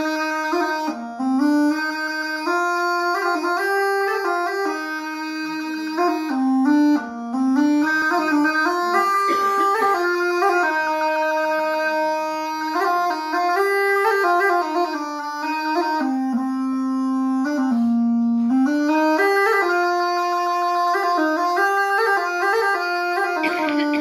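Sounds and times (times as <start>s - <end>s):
bagpipe folk melody: 0.0s - 24.0s.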